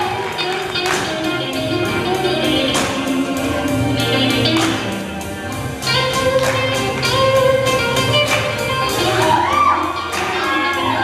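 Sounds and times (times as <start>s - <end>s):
blues music with guitar: 0.0s - 11.0s.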